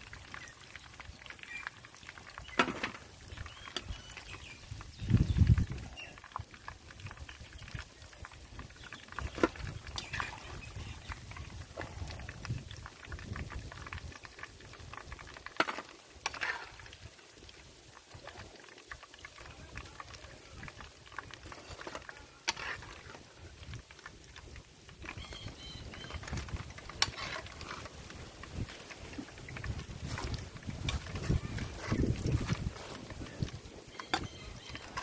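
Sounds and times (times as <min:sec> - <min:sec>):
kebabs sizzling in hot oil: 0:00.0 - 0:35.0.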